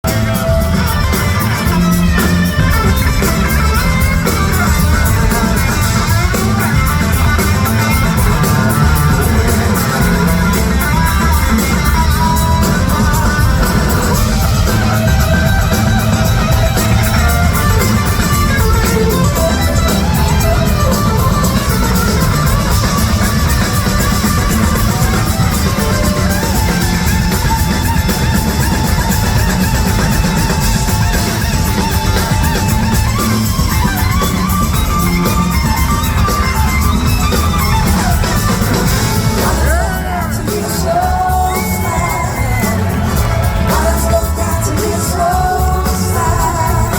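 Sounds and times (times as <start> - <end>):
band with bass and drums: 0.0 - 46.9
electric slide guitar: 0.0 - 46.9.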